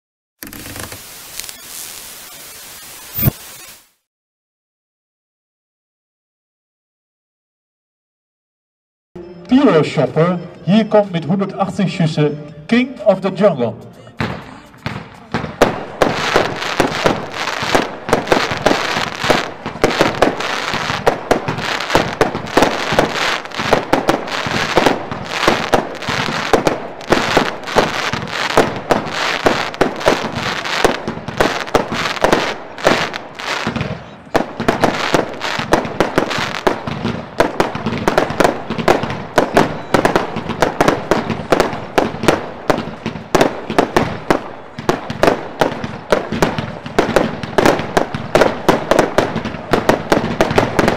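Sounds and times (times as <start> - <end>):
firework barrage: 0.5 - 4.1, 13.4 - 50.9.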